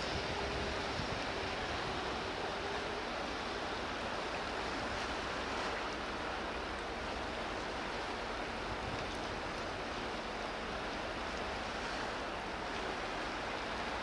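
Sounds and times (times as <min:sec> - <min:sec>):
wind and water wash: 0:00.0 - 0:14.0.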